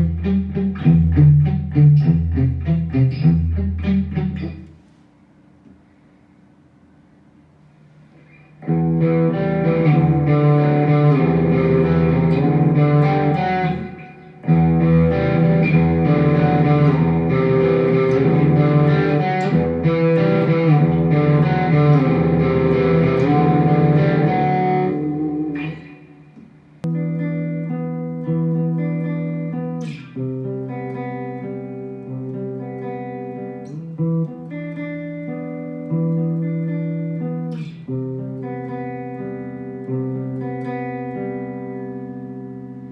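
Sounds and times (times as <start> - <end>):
clean picked guitar notes: 0.0 - 4.8, 8.2 - 42.9
distorted electric guitar chords: 0.0 - 4.8, 8.5 - 42.9.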